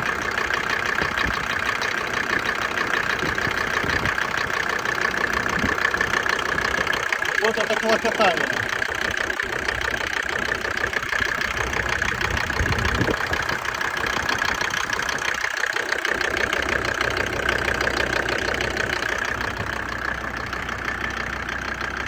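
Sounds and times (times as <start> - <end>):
diesel engine idling with knocking: 0.0 - 22.0.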